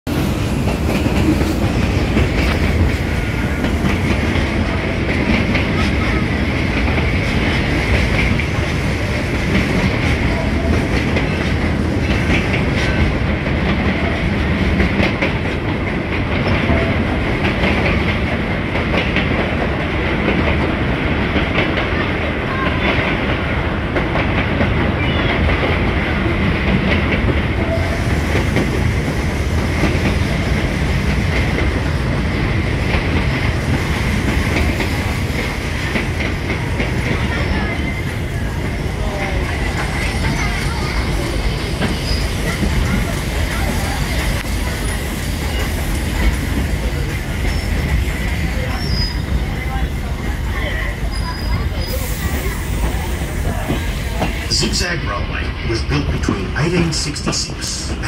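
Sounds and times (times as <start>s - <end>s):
clickety-clack over rail joints: 0.1s - 58.0s
train wheels rumbling: 0.1s - 58.0s.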